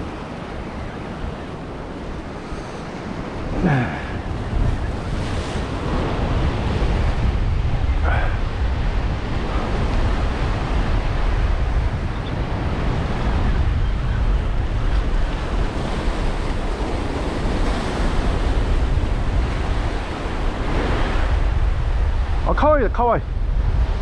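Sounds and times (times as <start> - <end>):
sea surf breaking on rocks: 0.0 - 24.0
wind rumbling on microphone: 0.0 - 24.0.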